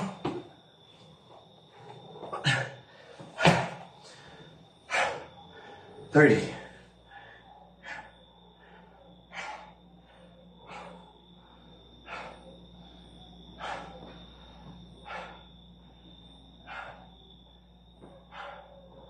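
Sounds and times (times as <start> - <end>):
man breathing hard: 1.5 - 19.0.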